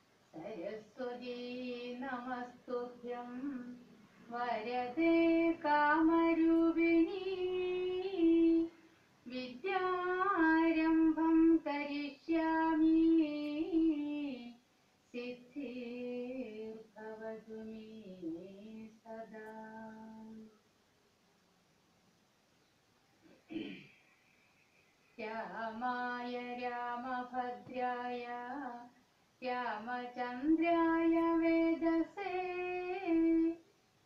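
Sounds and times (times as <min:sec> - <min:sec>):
woman chanting: 0:00.3 - 0:20.5, 0:25.2 - 0:33.6.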